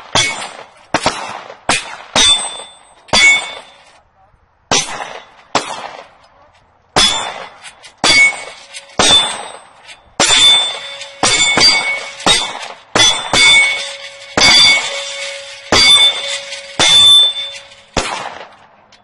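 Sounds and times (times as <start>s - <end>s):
bullets clanging on steel target: 0.0s - 4.0s, 7.0s - 19.0s.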